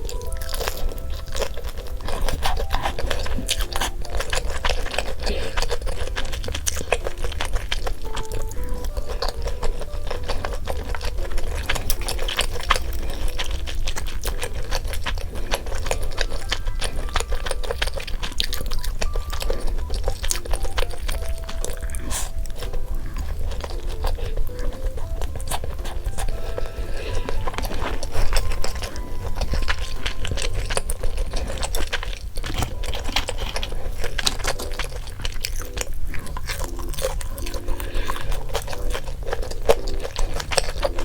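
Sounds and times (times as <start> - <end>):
chewing crunchy food: 0.0 - 41.0
light melodic background music: 0.0 - 41.0.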